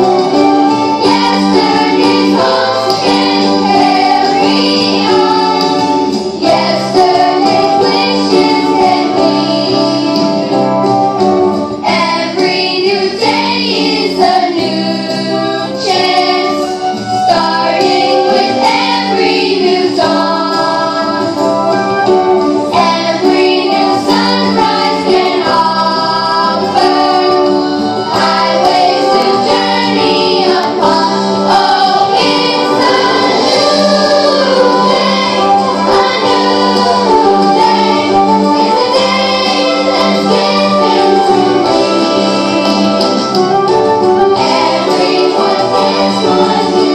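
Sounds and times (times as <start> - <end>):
children's choir singing: 0.0 - 10.8, 11.8 - 46.9.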